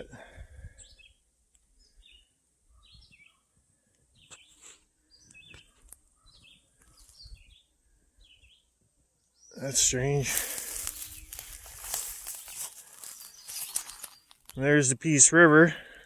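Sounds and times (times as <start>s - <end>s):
faint bird chirps: 0.7s - 10.2s, 10.8s - 14.7s.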